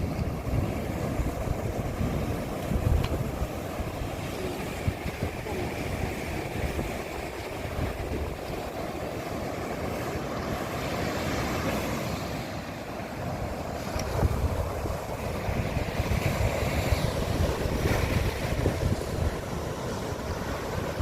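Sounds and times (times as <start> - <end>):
ocean waves washing: 0.0 - 21.0
wind buffeting microphone: 0.0 - 21.0.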